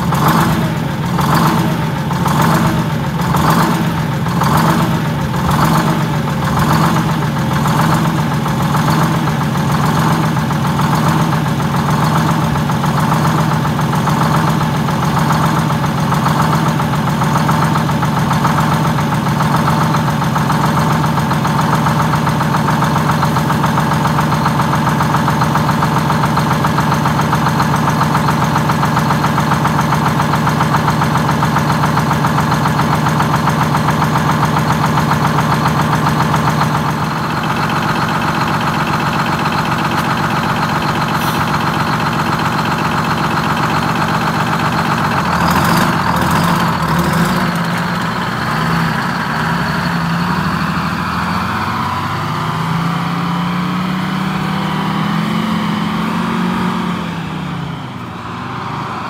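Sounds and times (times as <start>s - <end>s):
diesel bus engine idling: 0.0s - 59.0s.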